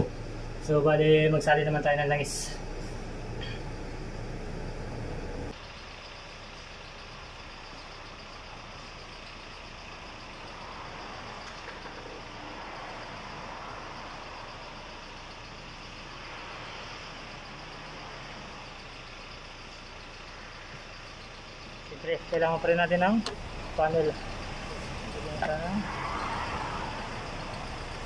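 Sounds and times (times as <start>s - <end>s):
workshop hum and hiss: 0.0s - 28.0s.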